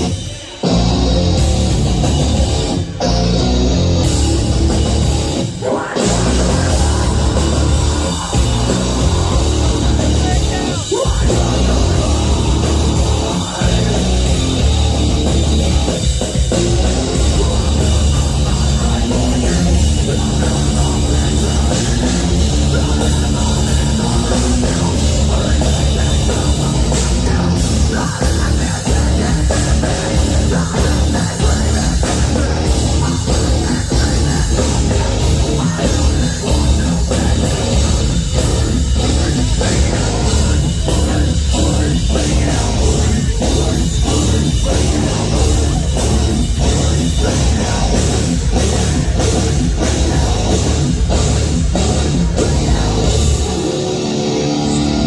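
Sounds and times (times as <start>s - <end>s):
heavy metal band playing: 0.0s - 55.0s.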